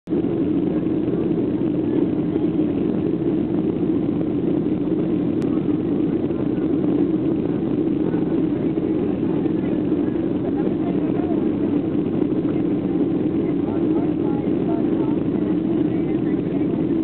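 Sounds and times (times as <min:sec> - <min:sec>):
airliner cabin engine drone: 0:00.1 - 0:17.0.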